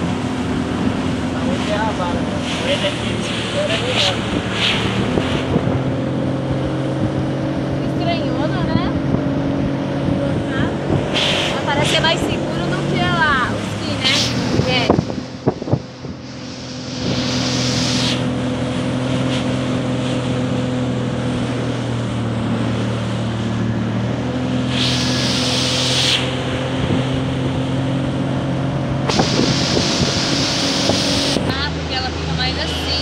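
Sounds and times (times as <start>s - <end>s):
wind gusts on microphone: 0.0s - 21.7s, 24.6s - 33.0s
motorboat engine running: 0.0s - 33.0s
water rushing past hull: 0.0s - 33.0s.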